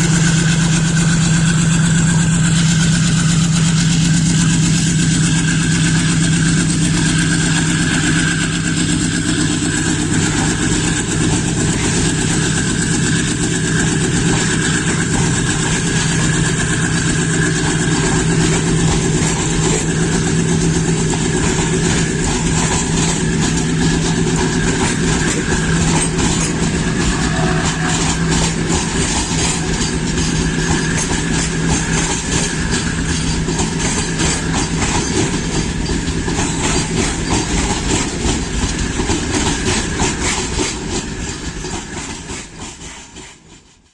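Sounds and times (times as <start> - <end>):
diesel locomotive engine drone: 0.0 - 43.9
wheels clattering over rails: 0.0 - 43.9.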